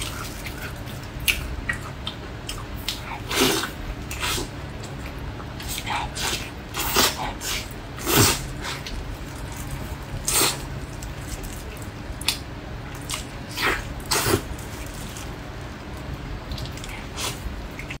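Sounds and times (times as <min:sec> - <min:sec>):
person chewing and smacking: 0:00.0 - 0:18.0
steady low hum: 0:00.0 - 0:18.0.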